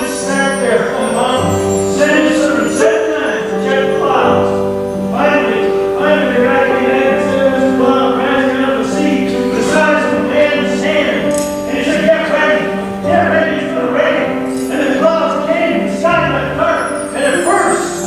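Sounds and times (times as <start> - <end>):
worship music with singing: 0.0 - 18.0.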